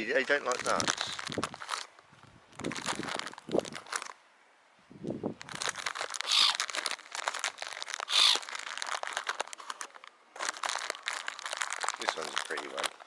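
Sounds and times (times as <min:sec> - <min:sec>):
plastic bag crinkling: 0:00.0 - 0:04.2, 0:05.4 - 0:13.0.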